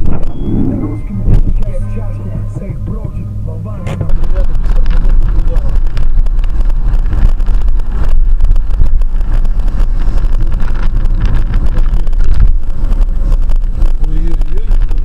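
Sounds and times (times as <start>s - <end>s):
car driving at highway speed: 0.0s - 15.0s.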